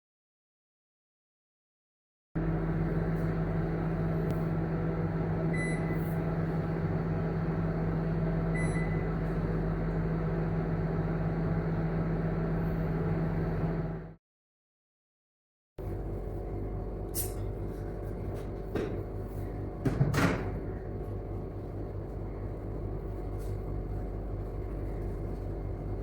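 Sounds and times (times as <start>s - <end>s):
microwave oven humming: 2.4s - 14.2s, 15.8s - 26.0s.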